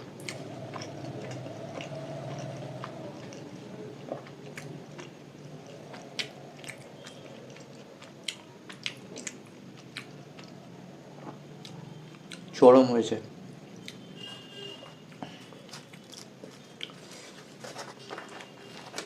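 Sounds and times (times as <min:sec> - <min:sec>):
person chewing food: 0:00.0 - 0:12.5, 0:13.8 - 0:14.0, 0:14.8 - 0:18.5.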